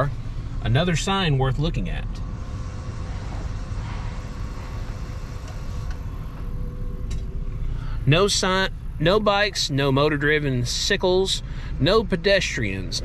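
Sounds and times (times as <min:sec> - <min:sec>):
car engine idling: 0:00.0 - 0:13.0
faint steady hum: 0:00.0 - 0:13.0.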